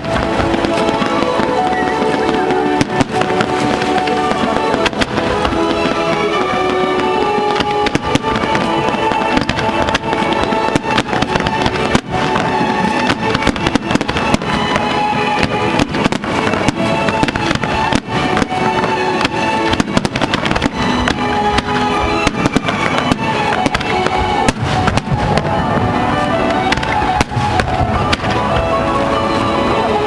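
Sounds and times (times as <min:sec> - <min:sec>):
fireworks bursting and crackling: 0:00.0 - 0:30.0
music: 0:00.0 - 0:30.0.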